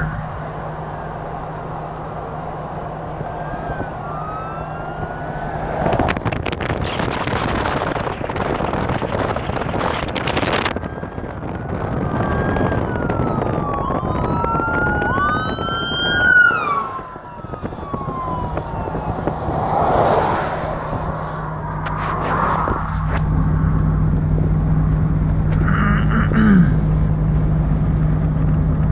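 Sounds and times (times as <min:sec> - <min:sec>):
emergency vehicle siren wailing: 0:00.0 - 0:25.5
car engine hum and road noise: 0:00.0 - 0:28.9.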